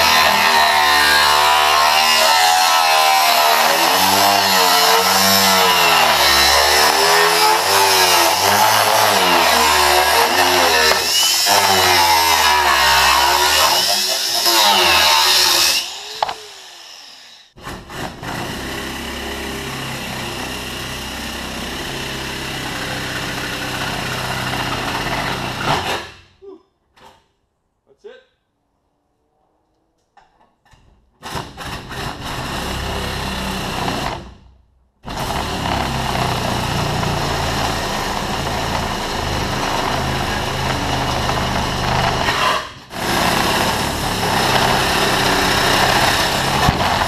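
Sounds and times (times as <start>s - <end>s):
angle grinder cutting sheet steel: 0.0s - 26.2s, 35.1s - 47.0s.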